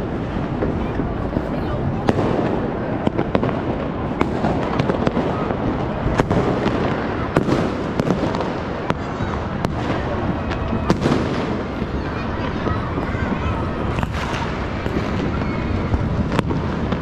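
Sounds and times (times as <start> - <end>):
distant fireworks crackle: 0.0 - 17.0
sharp firework bangs: 0.0 - 17.0.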